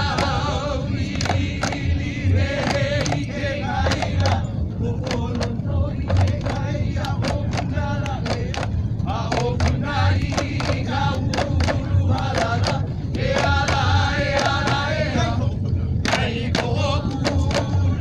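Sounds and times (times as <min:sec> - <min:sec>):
voices chanting: 0:00.0 - 0:18.0.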